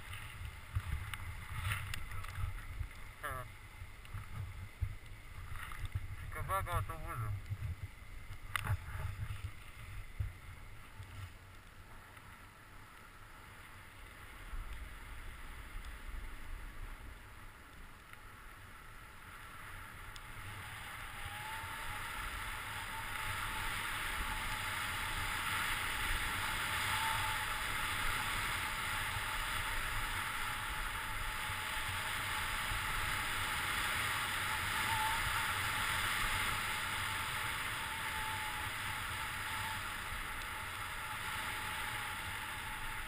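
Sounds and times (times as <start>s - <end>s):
sliding on snow hiss: 0.0s - 43.0s
wind rumbling on microphone: 0.0s - 43.0s.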